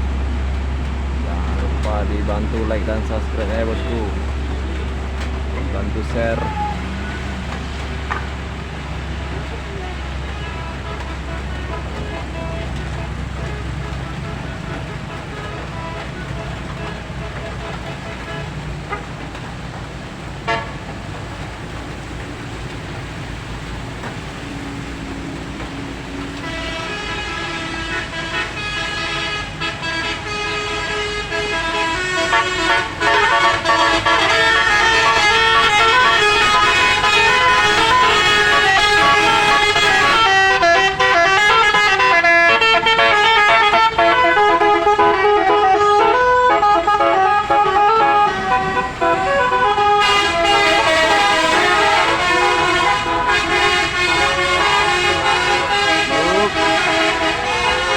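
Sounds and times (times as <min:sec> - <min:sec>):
low vehicle engine rumble: 0:00.0 - 0:57.9.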